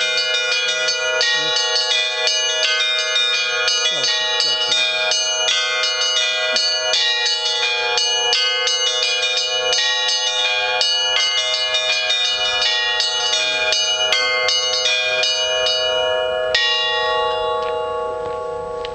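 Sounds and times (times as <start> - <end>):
deep bells ringing: 0.0 - 18.9
small high bells chiming: 0.0 - 18.9.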